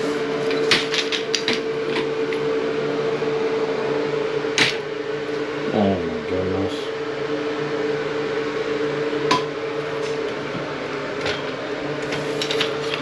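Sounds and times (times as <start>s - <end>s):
mechanical hum with low pulsing: 0.0s - 13.0s.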